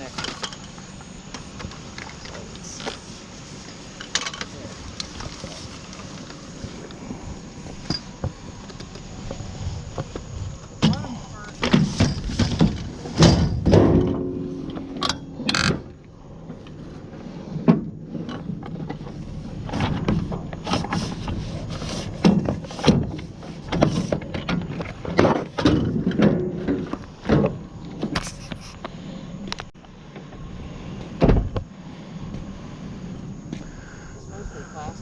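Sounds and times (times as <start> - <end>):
scrap parts clunking and rattling: 0.0 - 29.0.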